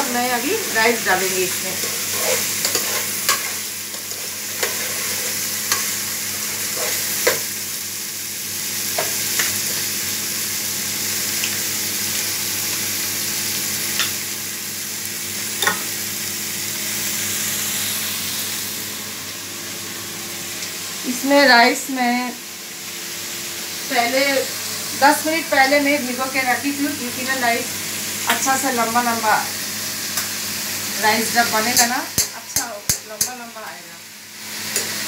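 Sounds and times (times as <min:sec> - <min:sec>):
vegetables sizzling in a pot: 0:00.0 - 0:35.0.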